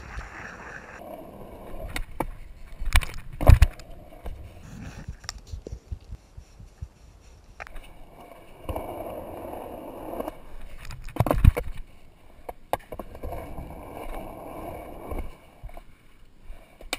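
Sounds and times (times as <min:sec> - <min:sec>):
skateboard wheels rolling on concrete: 0:00.0 - 0:16.9.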